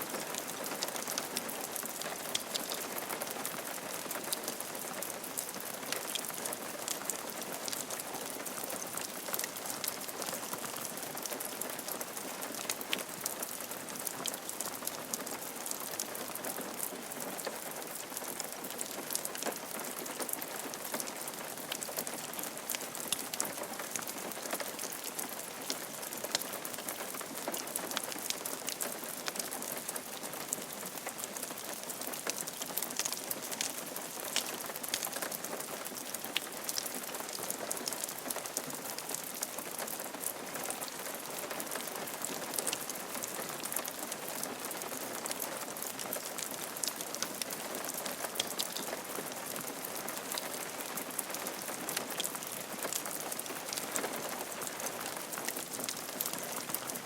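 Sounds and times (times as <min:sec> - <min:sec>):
rain falling on roof: 0:00.0 - 0:57.0.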